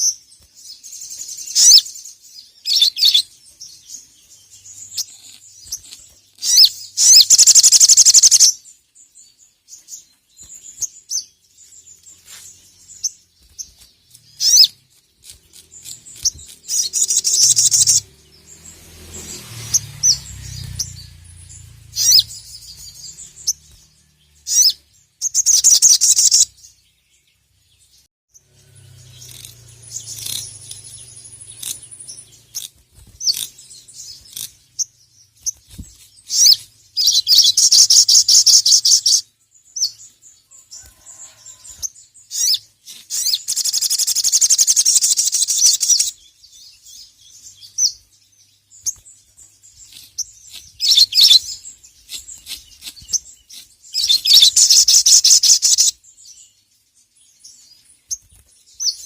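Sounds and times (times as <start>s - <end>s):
bird twittering: 0.0s - 8.7s, 9.8s - 26.8s, 28.9s - 40.0s, 42.3s - 48.0s, 48.7s - 56.0s
bird chirps: 0.0s - 59.0s.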